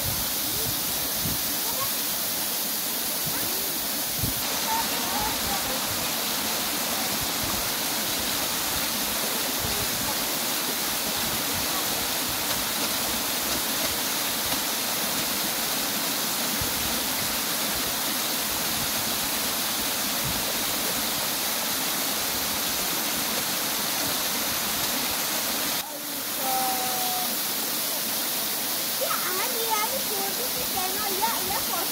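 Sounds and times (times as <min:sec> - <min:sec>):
running water rushing: 0:00.0 - 0:31.9.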